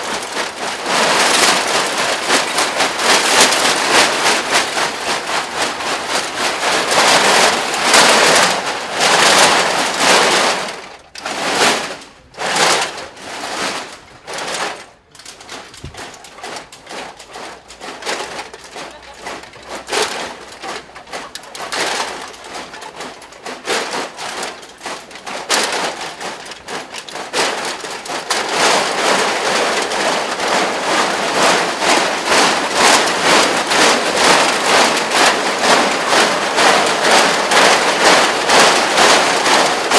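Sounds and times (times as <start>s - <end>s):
aluminium cans rattling on costumes: 0.0s - 39.9s.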